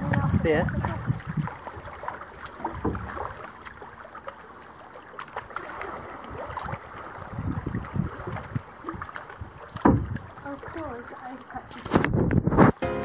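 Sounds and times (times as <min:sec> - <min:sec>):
water lapping around canoe: 0:00.0 - 0:12.8.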